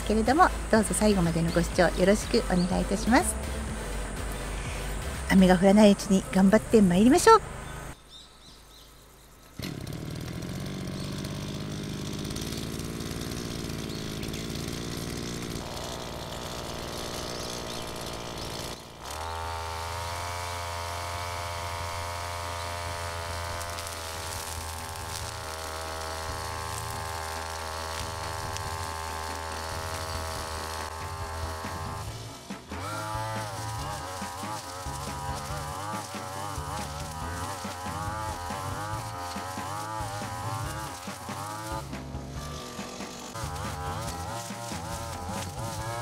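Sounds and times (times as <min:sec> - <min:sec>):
brush cutter engine running: 0:00.0 - 0:08.0, 0:08.7 - 0:46.0.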